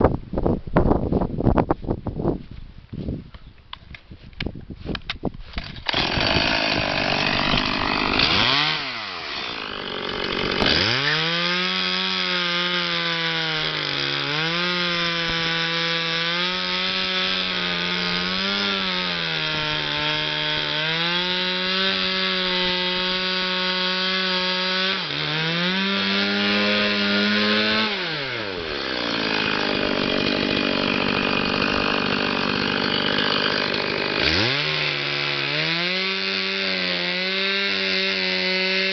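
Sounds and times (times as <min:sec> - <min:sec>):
chainsaw revving: 0:05.6 - 0:38.9.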